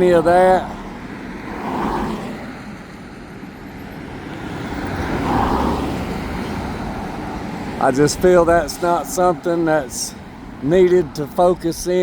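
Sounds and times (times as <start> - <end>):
highway traffic: 0.0 - 12.0.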